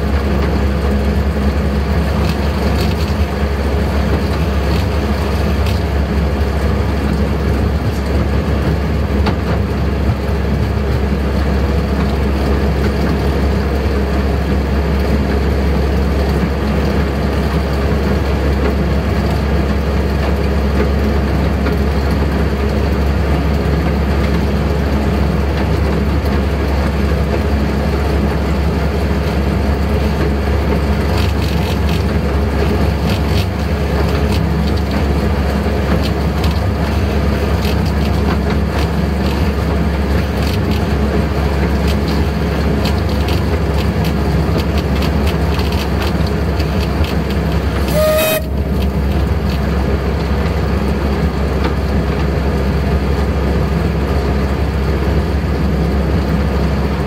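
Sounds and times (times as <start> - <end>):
miniature train running on track: 0.0 - 57.0.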